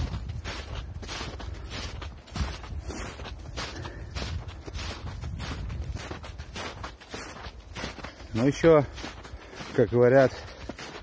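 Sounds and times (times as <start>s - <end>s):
footsteps crunching on forest floor: 0.0s - 11.0s.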